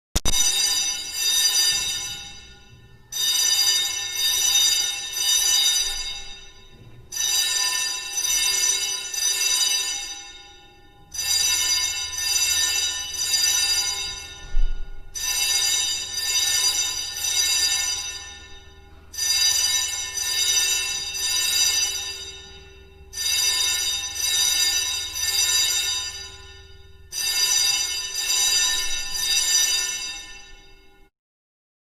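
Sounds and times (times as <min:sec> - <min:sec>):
fire alarm bell ringing: 0:00.2 - 0:31.1.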